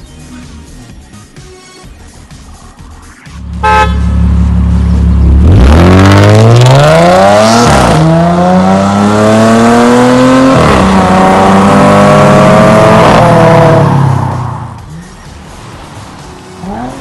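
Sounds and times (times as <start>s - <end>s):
car engine accelerating: 3.3s - 17.0s.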